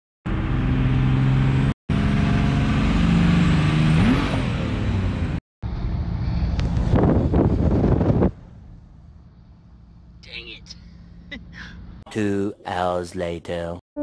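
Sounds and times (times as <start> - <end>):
road and wind noise: 0.3 - 12.0
diesel engine from inside cab: 0.3 - 12.8.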